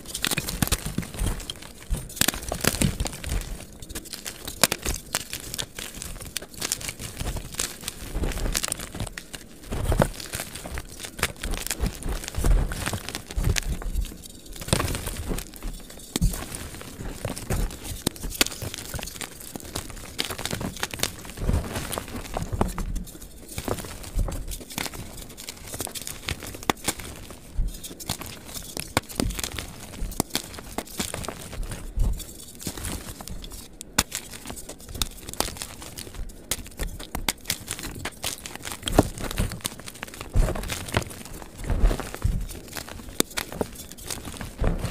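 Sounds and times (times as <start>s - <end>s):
chalk crunching and crumbling: 0.0s - 44.9s.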